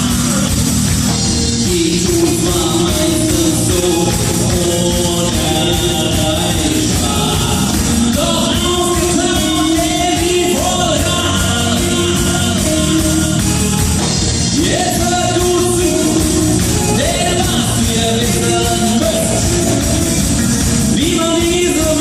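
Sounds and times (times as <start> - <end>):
live band music: 0.0 - 22.0
person singing: 0.0 - 22.0.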